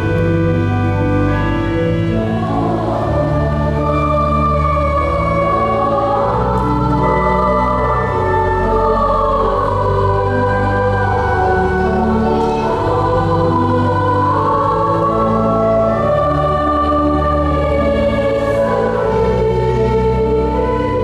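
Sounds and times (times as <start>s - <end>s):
choir singing: 0.0s - 21.0s
pipe organ: 0.0s - 21.0s.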